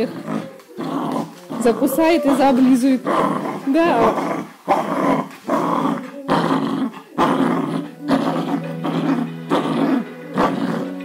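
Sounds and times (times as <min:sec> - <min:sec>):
puppy growling: 0:00.0 - 0:11.0.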